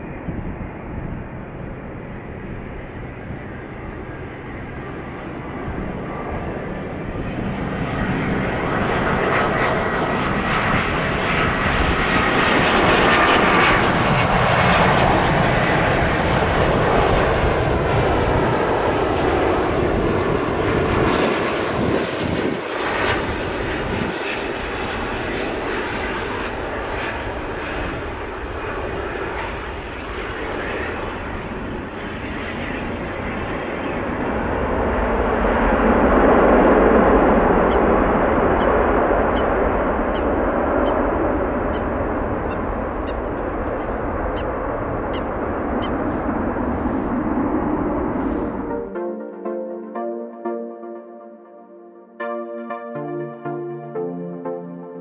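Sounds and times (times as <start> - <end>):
jet aircraft rumble with whine: 0.0 - 49.0.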